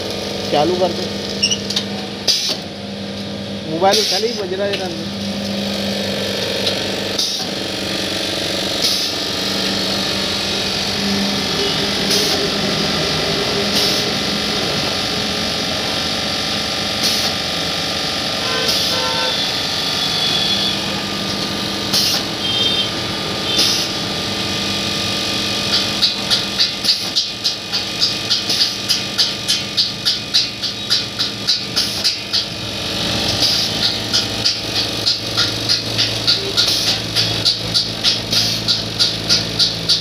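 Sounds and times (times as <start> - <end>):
packing machine hum and hiss: 0.0 - 40.0
sharp machine clack: 3.7 - 40.0.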